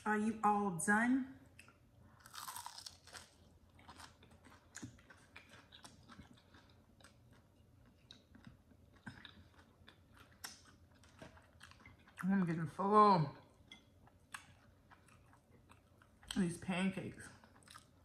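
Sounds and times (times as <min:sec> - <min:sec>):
wet chewing: 0:01.5 - 0:12.6, 0:13.4 - 0:16.5, 0:17.3 - 0:18.0.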